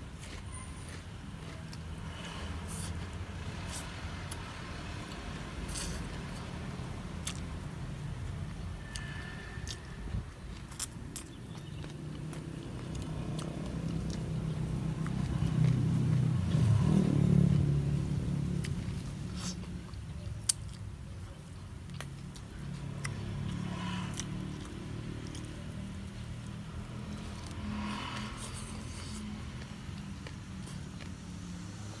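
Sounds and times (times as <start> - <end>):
vehicle engine hum: 0.0 - 32.0
man chewing: 0.1 - 7.6, 8.2 - 16.7, 18.5 - 32.0.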